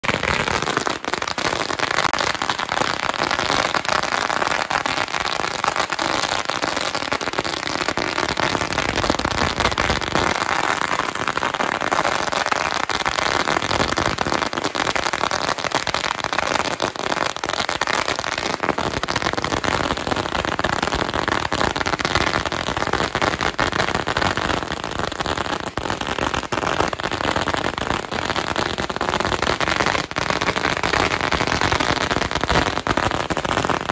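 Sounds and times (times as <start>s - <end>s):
firecrackers crackling: 0.0s - 33.9s.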